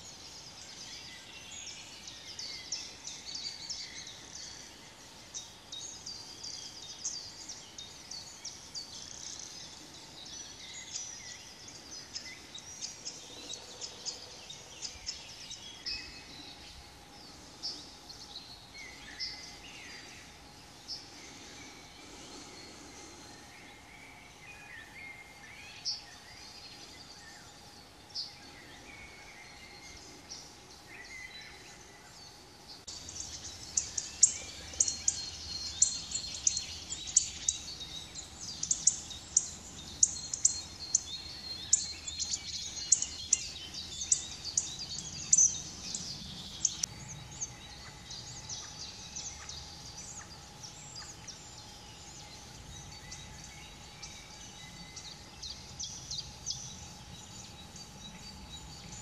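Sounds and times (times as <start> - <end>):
songbirds calling and singing: 0.0 - 59.0.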